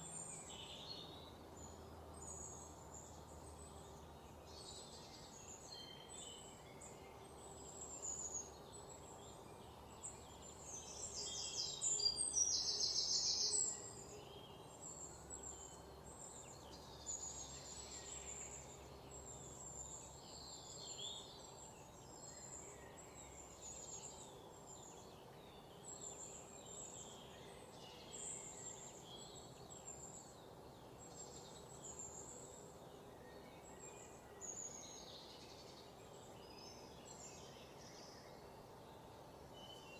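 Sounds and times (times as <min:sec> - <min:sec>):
faint steady background hiss: 0:00.0 - 0:39.9.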